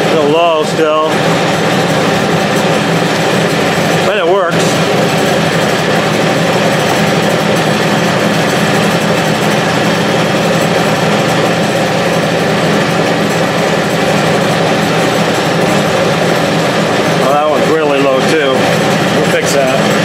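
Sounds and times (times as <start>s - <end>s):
metal lathe whirring: 0.0s - 20.0s.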